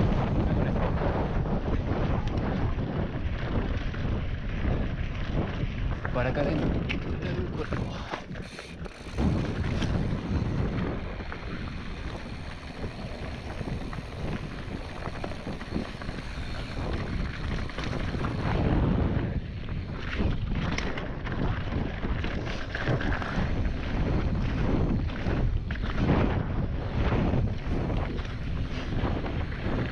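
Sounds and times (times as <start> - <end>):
bike clicks and rattles: 0.0 - 29.9
bike tyres rolling over rough trail: 0.0 - 29.9
wind buffeting microphone: 0.0 - 29.9.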